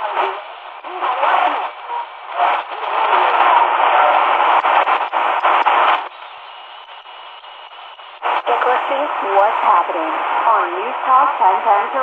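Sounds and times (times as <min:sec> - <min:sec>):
shortwave radio static: 0:00.0 - 0:12.0.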